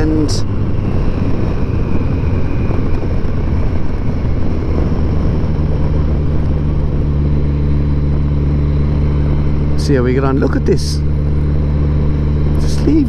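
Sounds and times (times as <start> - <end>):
motorcycle engine running: 0.0 - 13.0
wind rushing past microphone: 0.0 - 13.0.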